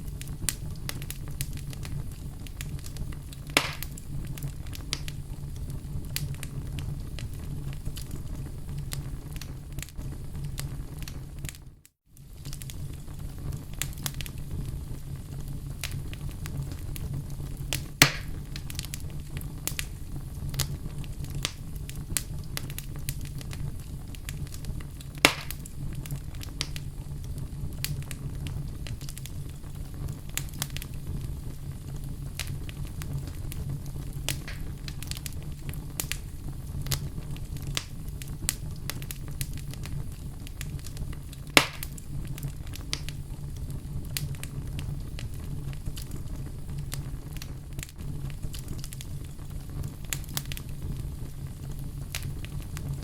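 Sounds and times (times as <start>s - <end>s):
fire crackling in a fireplace: 0.0s - 53.0s
loud fire pops: 0.0s - 53.0s.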